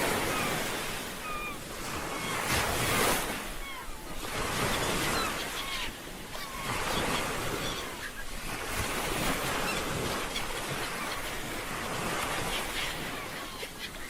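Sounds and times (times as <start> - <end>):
sea waves washing onto shore: 0.0 - 14.0
wind: 0.0 - 14.0.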